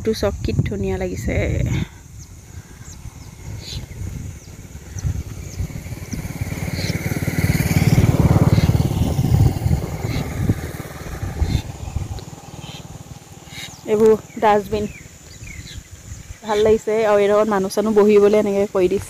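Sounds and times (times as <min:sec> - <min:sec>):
motor vehicle passing: 0:02.1 - 0:19.0.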